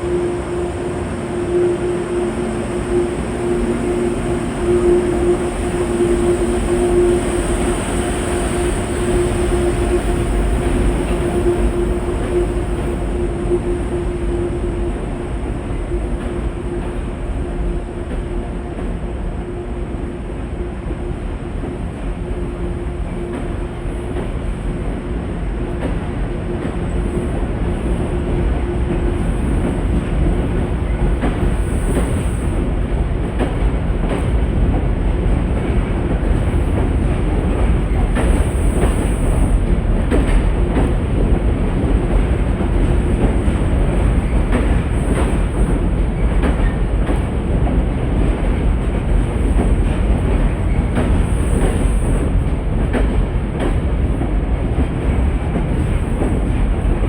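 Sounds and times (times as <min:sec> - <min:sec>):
train wheels clacking on rails: 0:00.0 - 0:19.6, 0:21.5 - 0:57.0.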